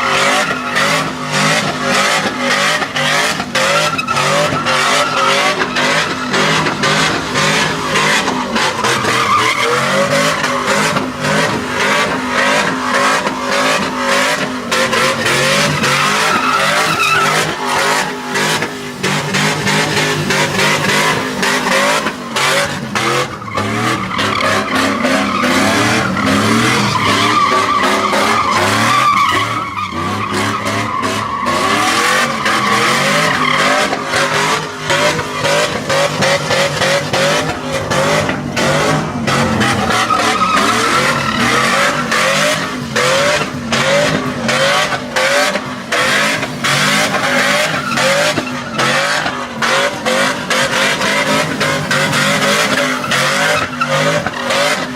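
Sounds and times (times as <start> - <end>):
tires squealing: 0.0 - 54.9
truck engines revving hard: 0.0 - 54.9.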